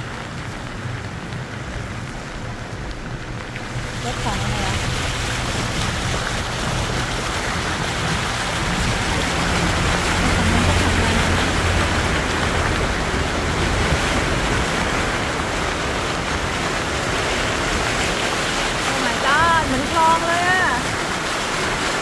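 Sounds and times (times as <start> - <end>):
water splashing against car: 0.0 - 22.0.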